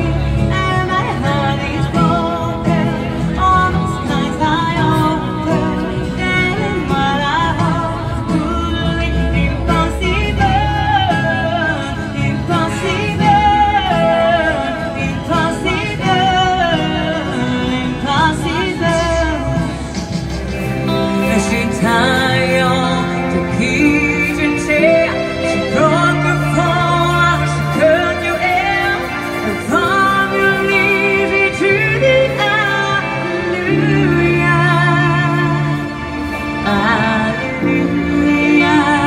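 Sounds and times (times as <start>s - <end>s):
acoustic guitar: 0.0s - 39.0s
woman singing into a microphone: 0.0s - 39.0s.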